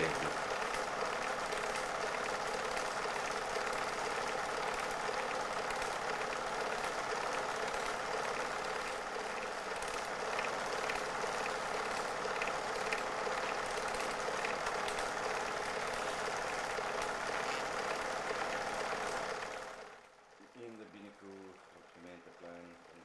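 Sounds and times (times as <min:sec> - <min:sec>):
faint regular ticking: 0:00.0 - 0:19.6
film projector whirring: 0:00.0 - 0:23.0.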